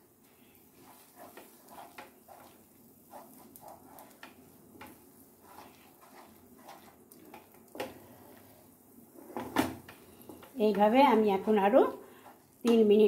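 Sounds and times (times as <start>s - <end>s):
spatula scraping frying pan: 0.6s - 12.6s.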